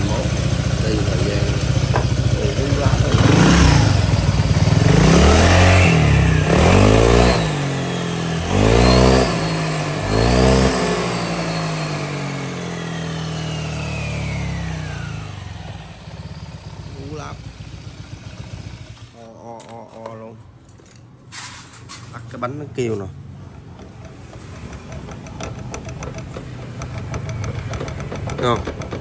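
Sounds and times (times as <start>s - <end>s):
scooter engine revving: 0.0s - 19.4s, 23.2s - 29.0s.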